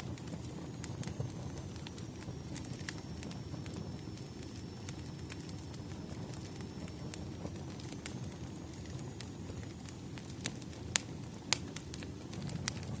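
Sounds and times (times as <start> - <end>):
sharp pops of burning logs: 0.0 - 13.0
wood fire crackling: 0.0 - 13.0.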